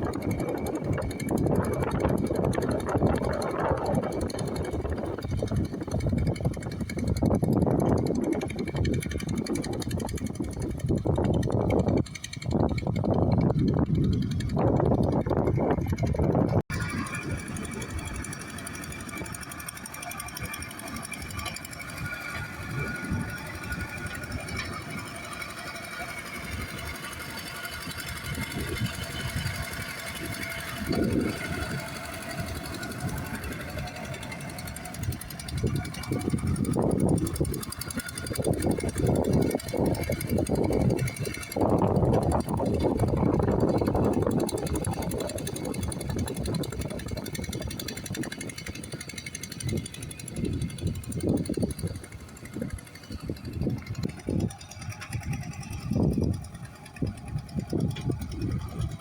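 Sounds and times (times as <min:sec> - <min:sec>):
engine running with clatter: 0:00.0 - 0:59.0
machine rattling: 0:00.0 - 0:59.0.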